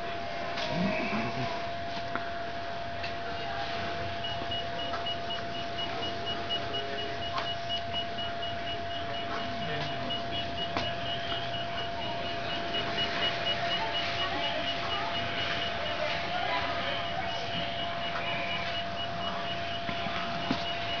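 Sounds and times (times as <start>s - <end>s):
low machinery hum: 0.0s - 21.0s
steady mid-pitched tone: 2.7s - 21.0s
rapid high beeps: 4.0s - 21.0s.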